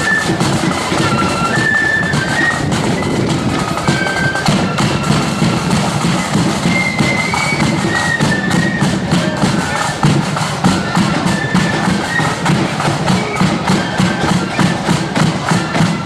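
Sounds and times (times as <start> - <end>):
flute band playing: 0.0 - 16.0
marching drums beating: 0.0 - 16.0.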